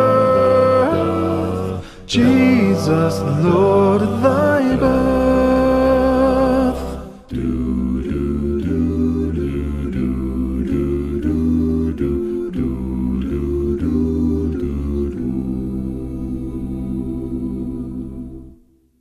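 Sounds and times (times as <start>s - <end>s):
a cappella group singing: 0.0s - 18.6s.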